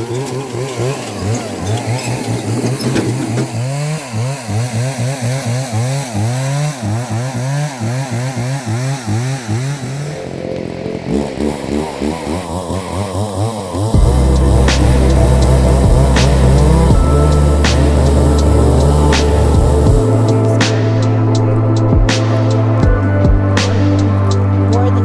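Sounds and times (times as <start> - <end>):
chainsaw cutting wood: 0.0 - 22.8.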